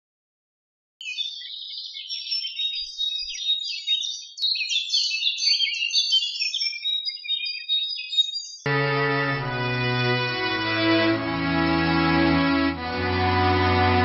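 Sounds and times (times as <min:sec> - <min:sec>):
songbirds chirping: 0:01.0 - 0:14.0.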